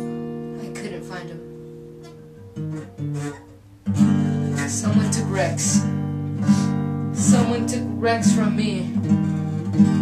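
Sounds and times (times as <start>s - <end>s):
acoustic guitar picked notes: 0.0s - 10.0s
acoustic guitar strummed chords: 0.0s - 10.0s.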